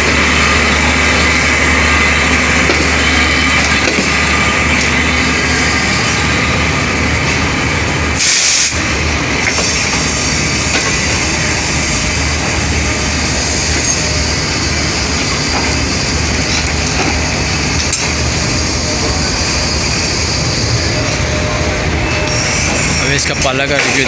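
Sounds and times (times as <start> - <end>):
idling train machinery drone: 0.0 - 24.0.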